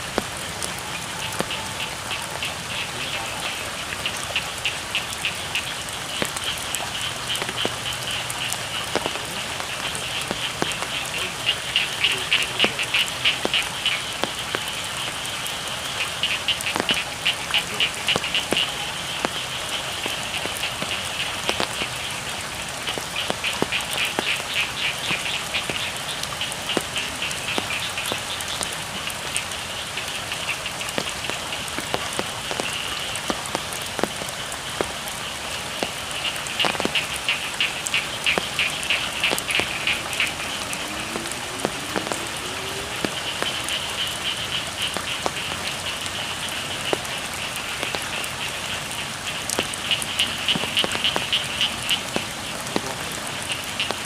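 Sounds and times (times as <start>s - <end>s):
raindrops ticking: 0.0s - 54.0s
steady rain falling: 0.0s - 54.0s
frogs calling in trills: 0.1s - 54.0s.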